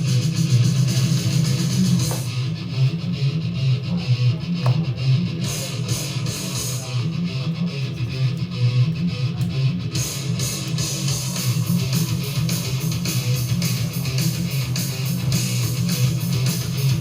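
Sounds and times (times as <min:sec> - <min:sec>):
metal music with electric guitar: 0:00.0 - 0:17.0.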